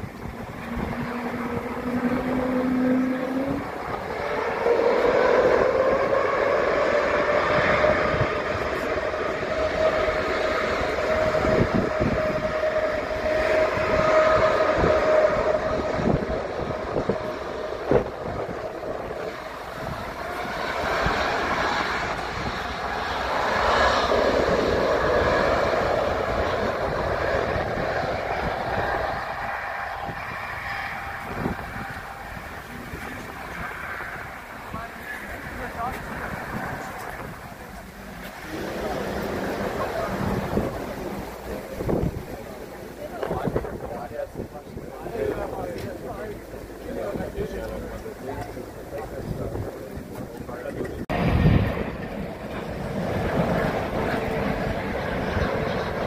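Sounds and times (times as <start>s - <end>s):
jet engines at high thrust: 0.0s - 56.0s
wind gusts on microphone: 0.0s - 56.0s.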